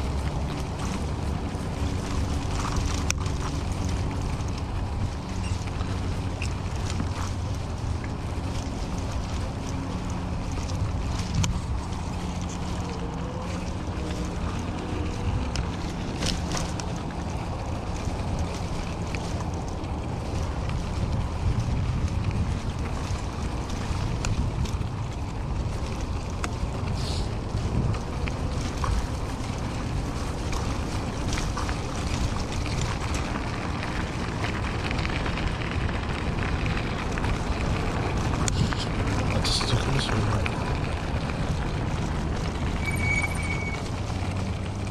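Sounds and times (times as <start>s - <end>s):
bike rattling clicks: 0.0s - 39.2s
tyres rumbling on dirt: 0.0s - 44.9s
wind buffeting microphone: 0.0s - 44.9s.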